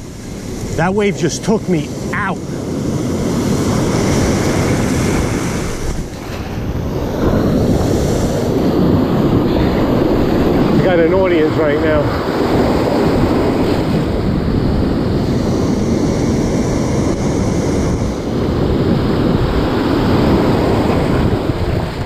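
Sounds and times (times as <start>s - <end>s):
heavy surf breaking: 0.0s - 22.0s
wind buffeting microphone: 0.0s - 22.0s.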